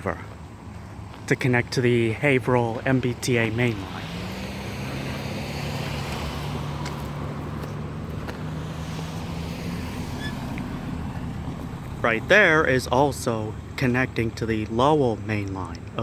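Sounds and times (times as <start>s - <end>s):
engine running: 0.0s - 16.0s
outdoor background noise: 0.0s - 16.0s.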